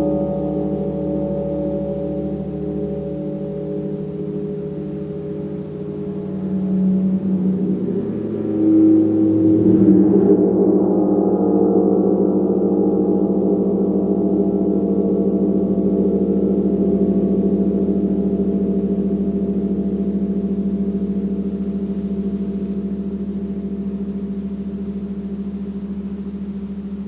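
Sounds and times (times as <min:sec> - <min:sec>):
gong ringing: 0:00.0 - 0:26.6.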